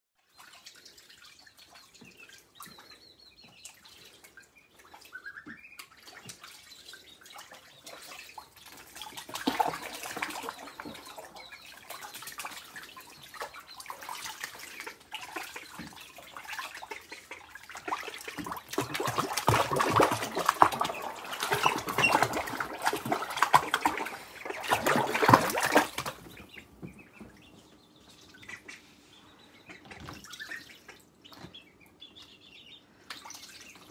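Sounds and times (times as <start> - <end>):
ducklings splashing in water: 0.2 - 33.9
ducklings peeping: 0.3 - 33.9.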